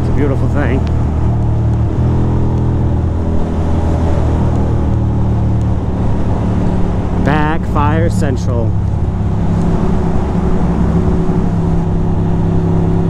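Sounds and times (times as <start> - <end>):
motorcycle engine at speed: 0.0 - 13.0.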